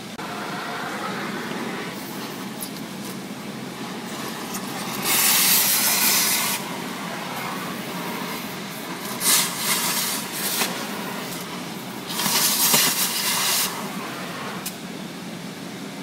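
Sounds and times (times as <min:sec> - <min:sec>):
cutting torch hissing: 0:00.0 - 0:15.0
torch oxygen blasts: 0:00.0 - 0:15.0.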